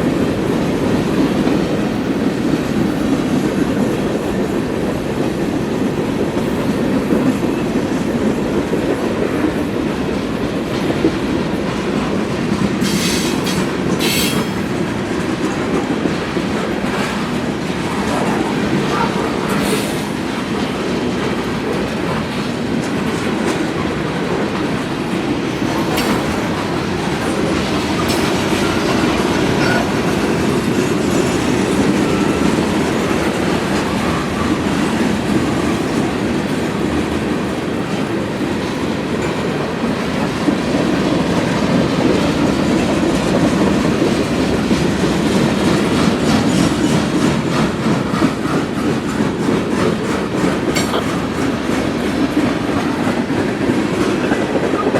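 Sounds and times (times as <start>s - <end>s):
freight train cars rolling past: 0.0s - 54.9s.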